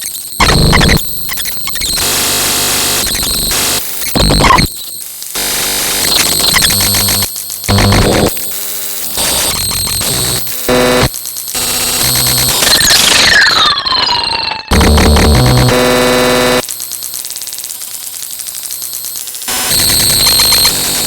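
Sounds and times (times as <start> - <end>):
electronic static and buzzing: 0.0 - 13.9, 14.7 - 21.0.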